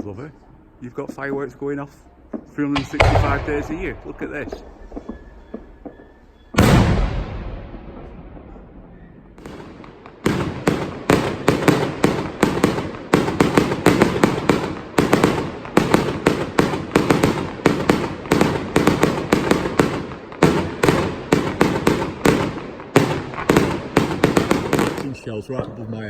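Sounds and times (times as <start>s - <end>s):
firework bangs: 1.0s - 25.2s.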